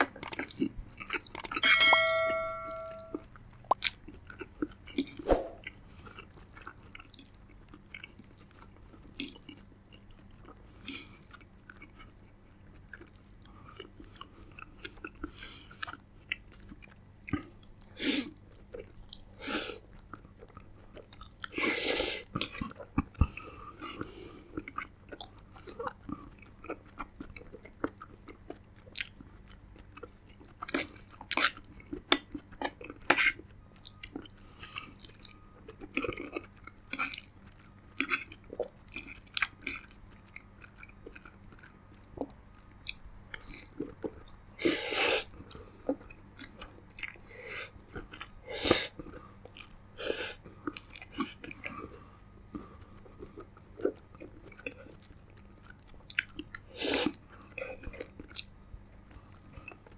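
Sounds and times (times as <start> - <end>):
chewing with wet mouth clicks: 0.0 - 1.6, 3.1 - 21.6, 22.2 - 44.5, 45.2 - 59.9.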